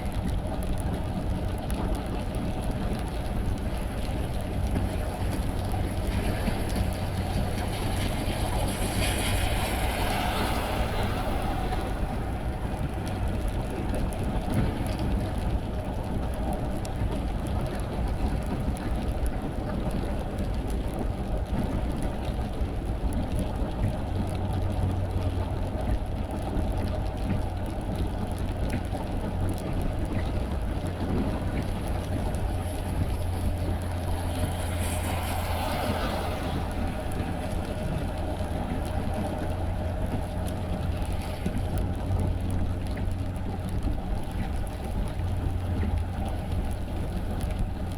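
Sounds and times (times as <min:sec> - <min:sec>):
car tyres on wet road: 0:00.0 - 0:47.9
low engine hum: 0:00.0 - 0:47.9
rain: 0:00.0 - 0:47.9.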